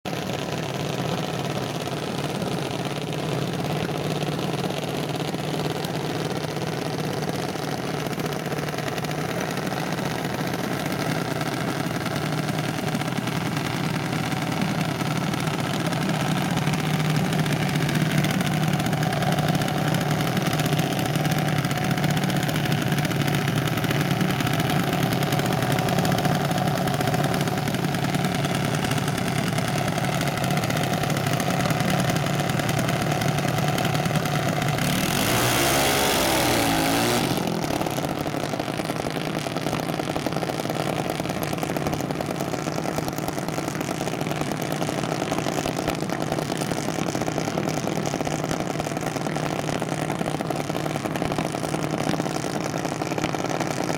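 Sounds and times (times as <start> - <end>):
dragster engine idling: 0.1 - 53.9.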